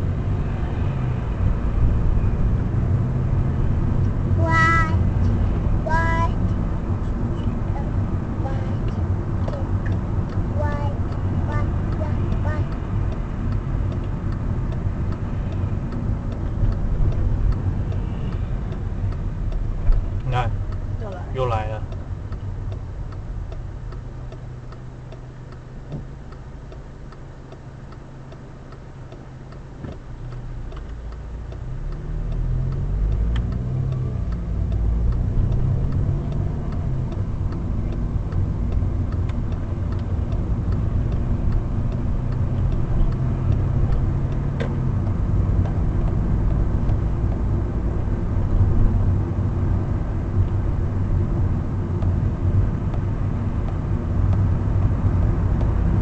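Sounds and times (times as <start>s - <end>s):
car engine accelerating through gears: 0.0s - 56.0s
road noise: 0.0s - 56.0s
car engine idling with ticking: 1.4s - 56.0s.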